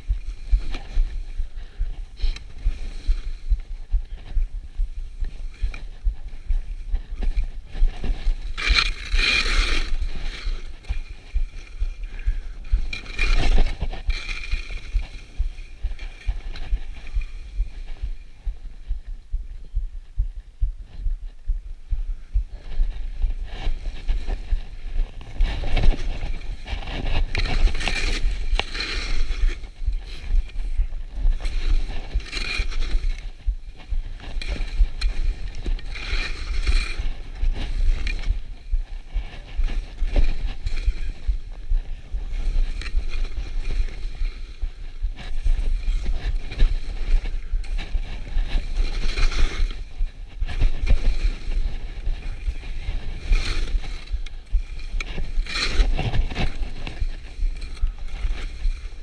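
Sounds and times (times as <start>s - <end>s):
skis scraping across snow: 0.0s - 18.9s, 22.2s - 59.0s
wind buffeting microphone: 0.0s - 59.0s.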